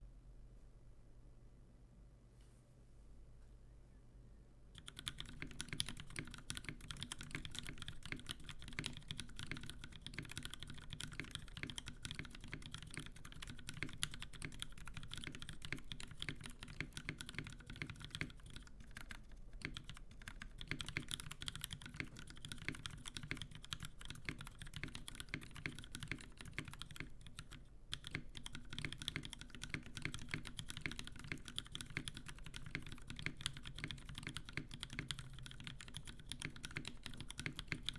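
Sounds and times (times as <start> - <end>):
typing on mechanical keyboard: 4.8 - 37.9.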